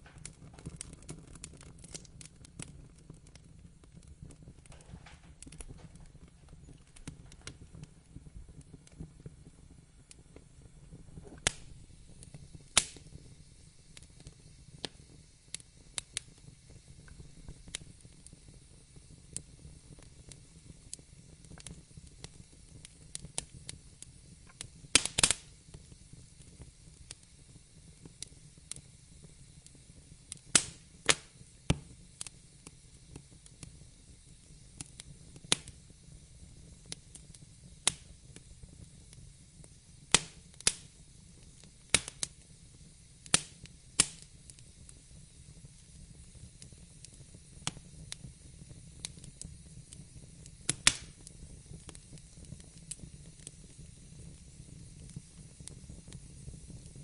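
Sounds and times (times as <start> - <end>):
rush of burning flames: 0.0 - 57.0
wood fire crackling: 0.0 - 57.0.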